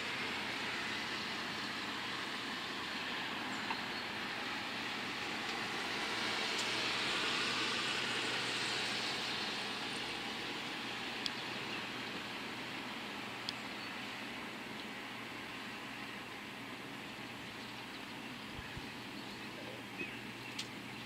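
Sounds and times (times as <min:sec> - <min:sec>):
outdoor background rumble and hiss: 0:00.0 - 0:21.0.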